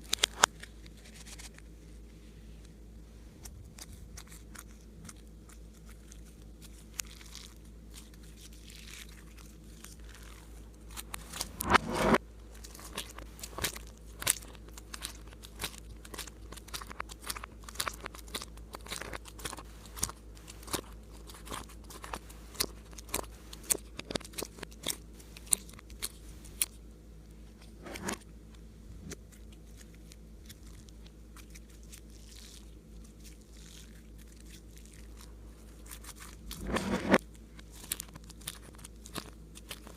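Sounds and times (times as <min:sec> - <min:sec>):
slime squelch: 0:03.4 - 0:26.8, 0:29.0 - 0:39.9.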